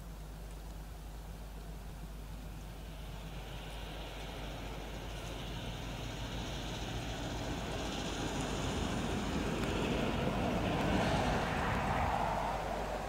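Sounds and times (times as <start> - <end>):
vehicle passing on road: 2.0 - 13.0.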